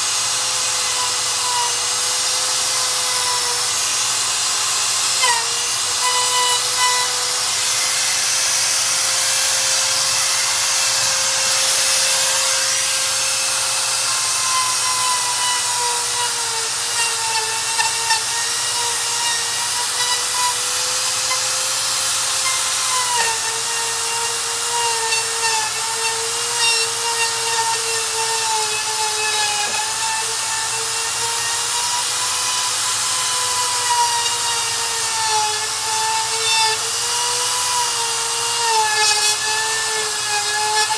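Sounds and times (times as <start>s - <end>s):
electric router whining: 0.0s - 40.9s
router bit cutting rubber: 0.0s - 40.9s.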